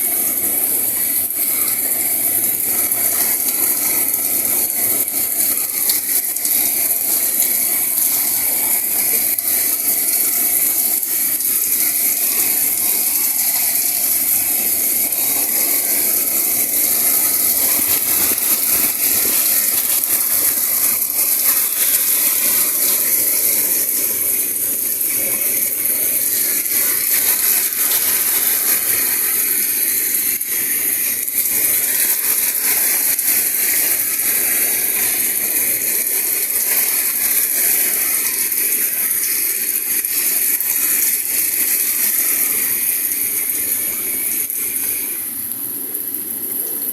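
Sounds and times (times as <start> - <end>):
steady loud hiss with crackle: 0.0 - 46.9.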